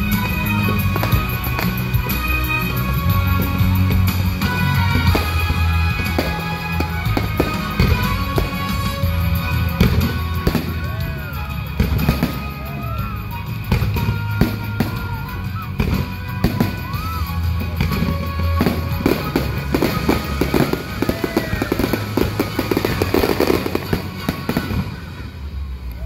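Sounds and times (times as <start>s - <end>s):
fireworks bursting: 0.0s - 25.9s
show music: 0.0s - 26.0s.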